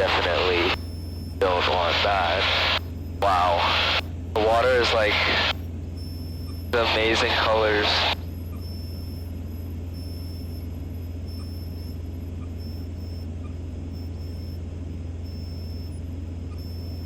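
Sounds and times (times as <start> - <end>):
faint high-pitched pulsing tone: 0.0 - 17.0
propeller plane engine drone: 0.0 - 17.0.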